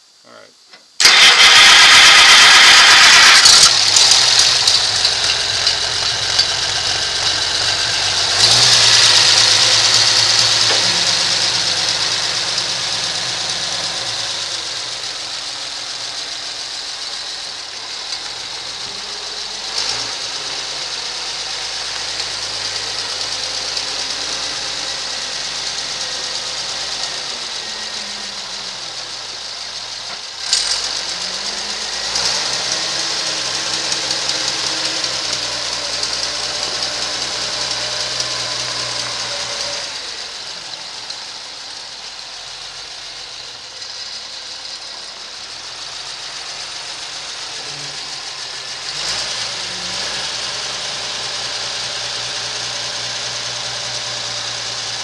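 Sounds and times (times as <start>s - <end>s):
tractor engine running: 1.0s - 55.0s.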